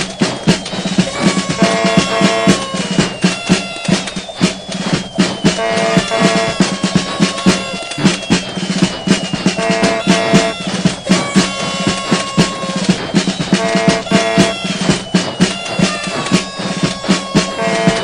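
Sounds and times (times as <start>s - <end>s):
music with steady drum beat: 0.0s - 18.0s.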